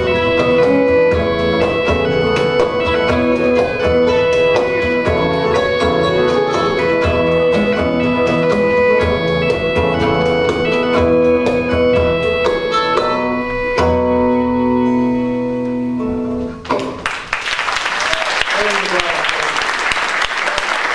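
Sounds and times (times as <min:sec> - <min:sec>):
live celtic band music: 0:00.0 - 0:17.3.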